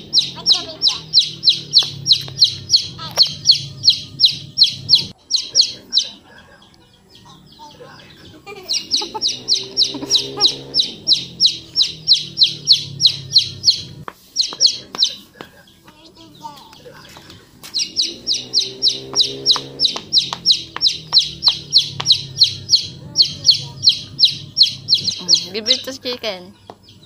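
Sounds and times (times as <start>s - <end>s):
bird chirping rapidly: 0.0s - 27.0s.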